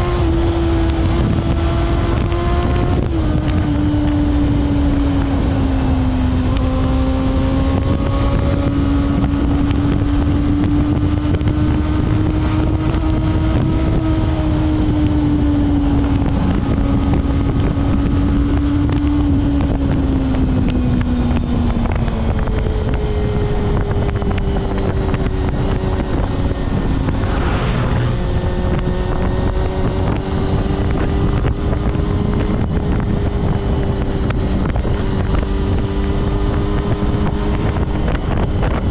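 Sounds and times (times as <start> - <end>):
motorcycle engine at high revs: 0.0 - 38.9
wind noise on microphone: 0.0 - 38.9.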